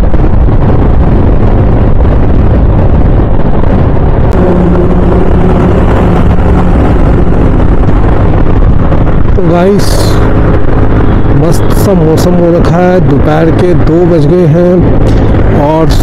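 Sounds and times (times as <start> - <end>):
scooter engine hum: 0.0 - 16.0
wind rush over microphone: 0.0 - 16.0.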